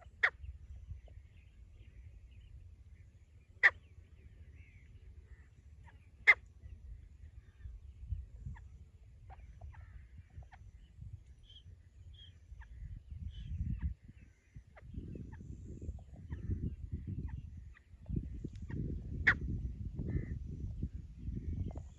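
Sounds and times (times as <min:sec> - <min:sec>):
francolin calls: 0:00.0 - 0:15.4, 0:16.1 - 0:21.9
birds chirping: 0:00.0 - 0:21.9
wind rumble on microphone: 0:00.0 - 0:21.9.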